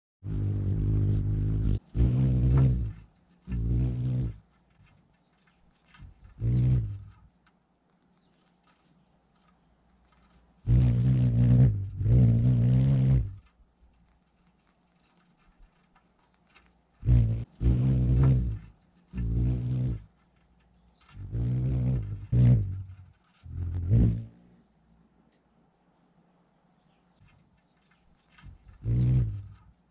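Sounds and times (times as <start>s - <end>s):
hummingbird wings humming: 0.3s - 25.4s, 26.8s - 29.9s.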